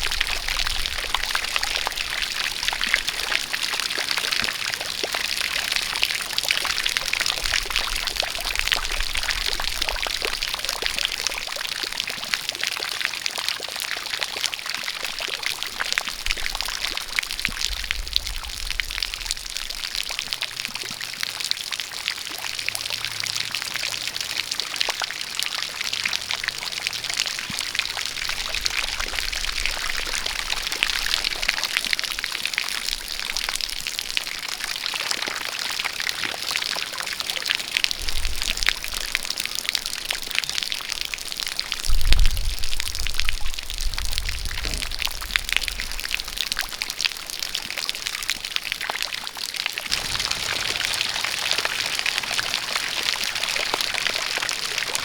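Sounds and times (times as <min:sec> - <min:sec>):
steady rain: 0:00.0 - 0:55.0
water pouring from a spout: 0:00.0 - 0:55.0.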